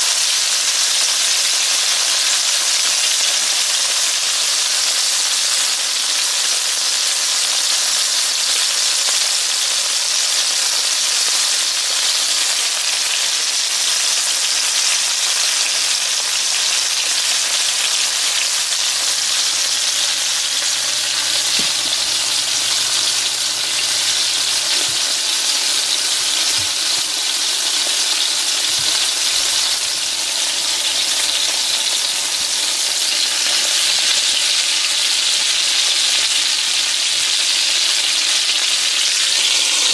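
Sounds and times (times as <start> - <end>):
fish frying in hot oil: 0.0 - 39.9.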